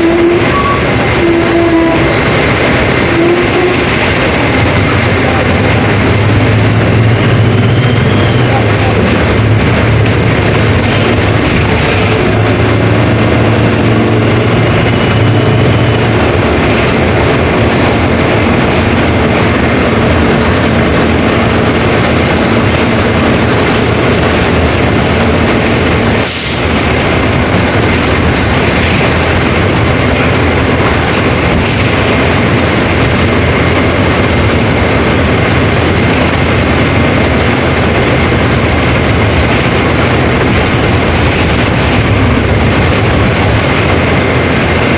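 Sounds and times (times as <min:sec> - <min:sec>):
bus engine drone: 0:00.0 - 0:44.9
bus rolling rumble: 0:00.0 - 0:44.9.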